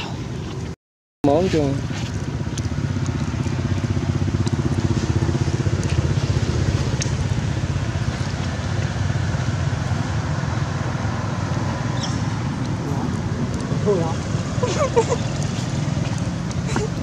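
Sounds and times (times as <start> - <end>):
motor engine running steadily: 0.0 - 17.0.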